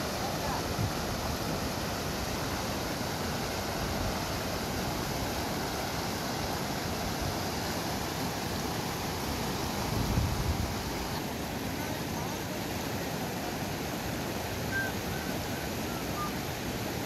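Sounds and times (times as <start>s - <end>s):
river rushing over boulders: 0.0s - 17.0s.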